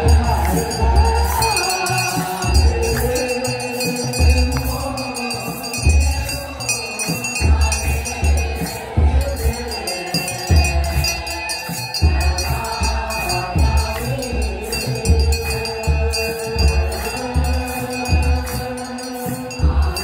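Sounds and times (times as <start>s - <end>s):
choir chanting: 0.0s - 20.0s
deep drum beats: 0.0s - 20.0s.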